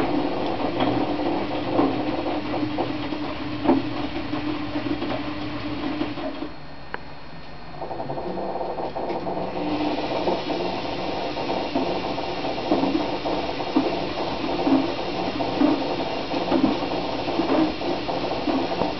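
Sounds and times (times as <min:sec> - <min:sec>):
washing machine humming: 0:00.0 - 0:18.9.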